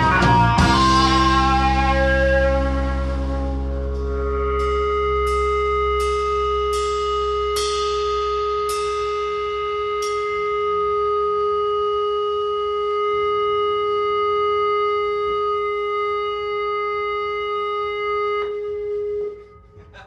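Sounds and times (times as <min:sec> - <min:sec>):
electric guitar note ringing: 0:00.0 - 0:20.0.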